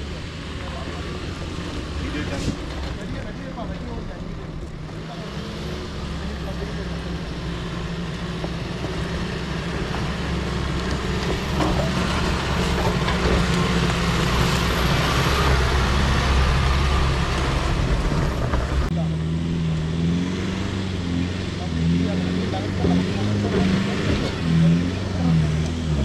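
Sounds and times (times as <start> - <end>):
road noise: 0.0 - 26.0
vehicle engine droning: 0.0 - 26.0.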